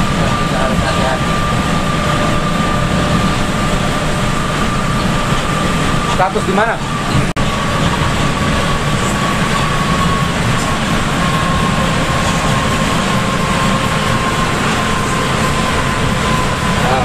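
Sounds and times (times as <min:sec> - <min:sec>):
bus engine: 0:00.0 - 0:17.0
thin steady whine: 0:00.0 - 0:17.0.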